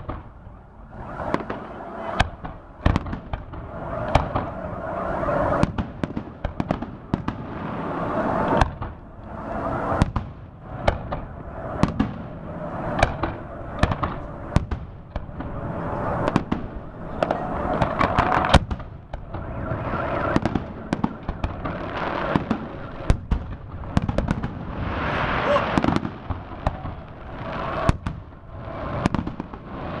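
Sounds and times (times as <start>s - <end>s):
fireworks bangs and crackles: 0.0s - 30.0s
rushing noise: 0.0s - 30.0s.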